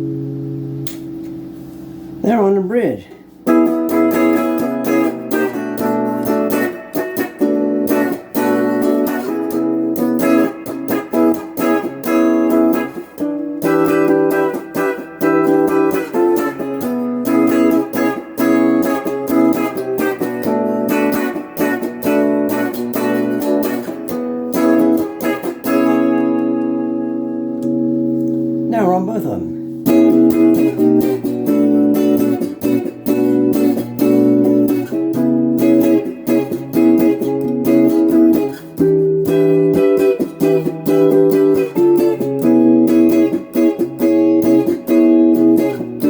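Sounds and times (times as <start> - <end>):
electric guitar strummed and picked: 0.0 - 46.0.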